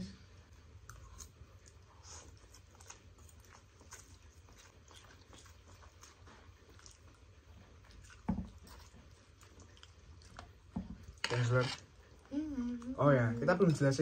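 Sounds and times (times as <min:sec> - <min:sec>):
people chewing noodles: 0:00.5 - 0:14.0.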